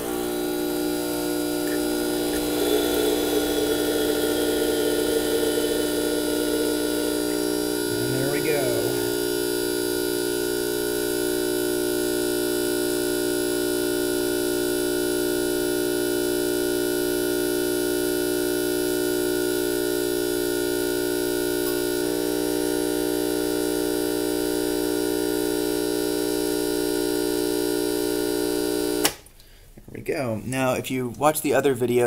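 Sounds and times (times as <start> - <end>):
espresso machine pump humming: 0.0 - 29.2.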